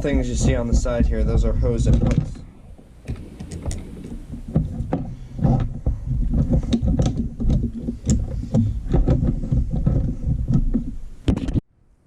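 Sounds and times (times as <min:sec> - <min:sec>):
plastic parts clicking and knocking: 0:00.0 - 0:02.4, 0:03.0 - 0:11.6
low handling rumble: 0:00.0 - 0:11.3.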